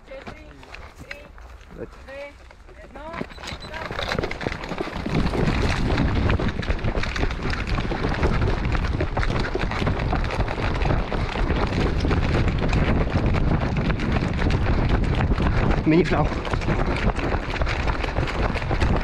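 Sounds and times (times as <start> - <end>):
running footsteps on gravel: 0.0 - 19.0
wind buffeting microphone: 3.1 - 19.0.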